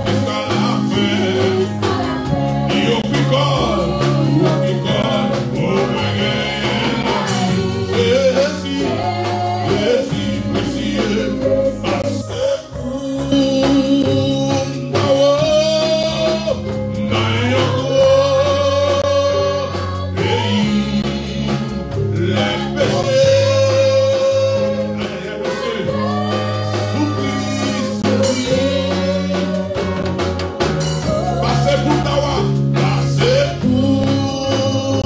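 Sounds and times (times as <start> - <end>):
gospel song with singing voices: 0.0 - 35.0.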